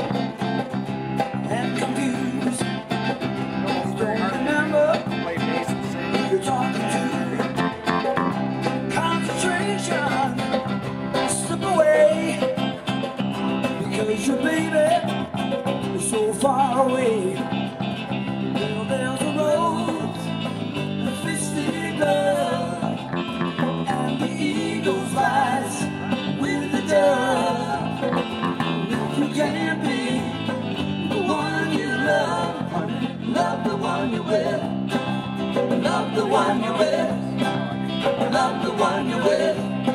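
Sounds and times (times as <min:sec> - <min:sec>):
live band playing through a pa: 0:00.0 - 0:39.9
lead vocal singing: 0:01.3 - 0:08.1, 0:08.7 - 0:12.9, 0:13.6 - 0:17.8, 0:18.5 - 0:39.9.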